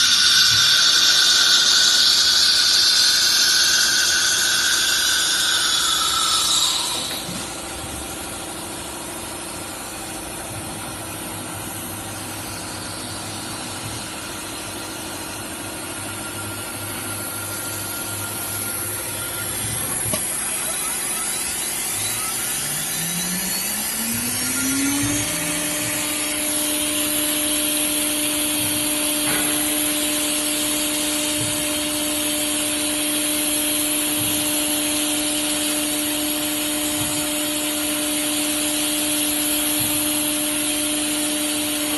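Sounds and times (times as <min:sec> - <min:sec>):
router spindle whine: 0:00.0 - 0:41.9.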